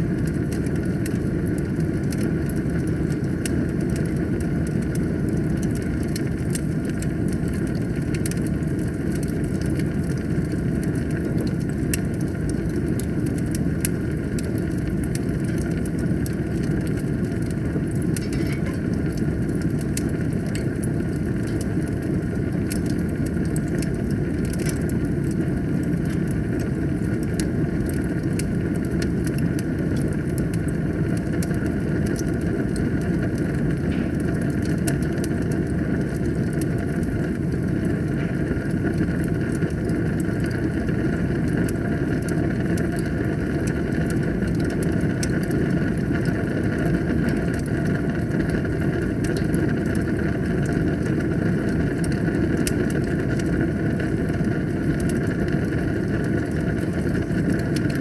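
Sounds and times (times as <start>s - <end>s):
fire crackles and pops: 0.0s - 58.0s
wood fire burning: 0.0s - 58.0s.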